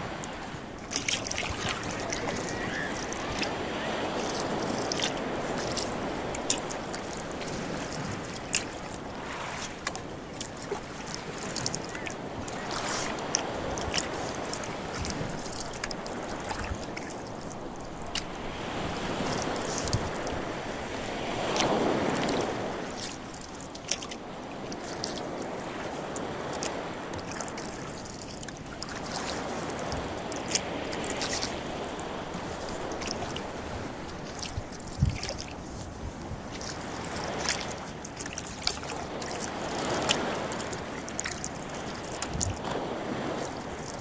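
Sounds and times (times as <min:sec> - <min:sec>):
oars pulling through water: 0:00.0 - 0:44.0
water splashing and lapping: 0:00.0 - 0:44.0.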